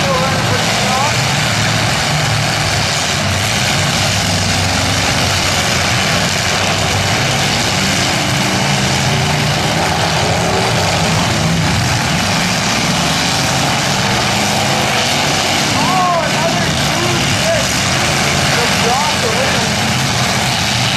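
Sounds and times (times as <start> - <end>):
car engines running together: 0.0 - 20.9.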